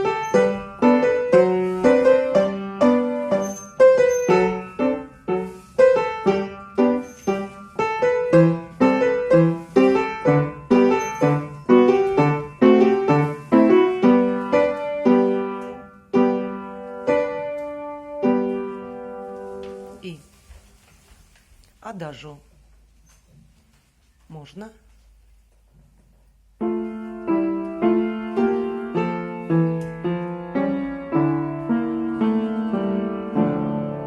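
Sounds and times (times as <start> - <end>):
piano chords on steady beat: 0.0 - 20.2, 25.5 - 34.0.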